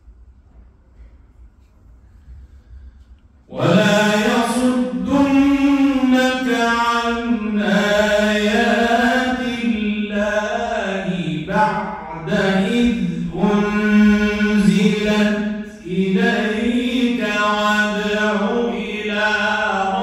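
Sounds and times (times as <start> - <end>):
man reciting melodically: 3.5 - 20.0.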